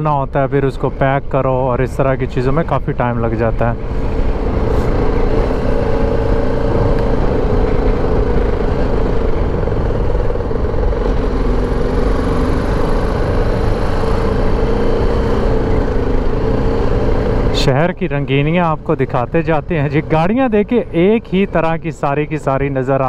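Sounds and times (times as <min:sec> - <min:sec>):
motorcycle engine running: 0:03.5 - 0:22.1.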